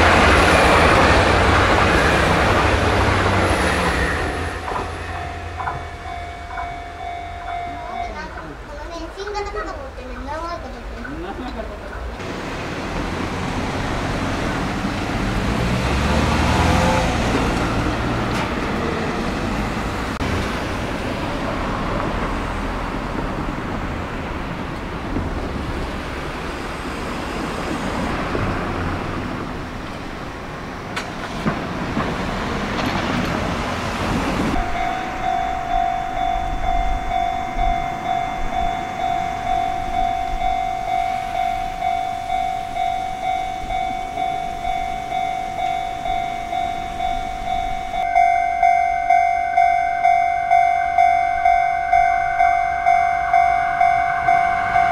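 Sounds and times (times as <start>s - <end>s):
level crossing warning bell: 0.0s - 11.4s, 13.0s - 30.4s, 33.5s - 54.9s
rumbling vehicle noise: 0.0s - 54.9s.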